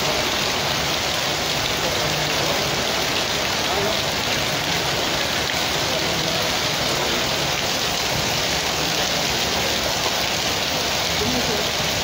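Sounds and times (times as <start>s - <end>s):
heavy rain on pavement: 0.0s - 12.0s.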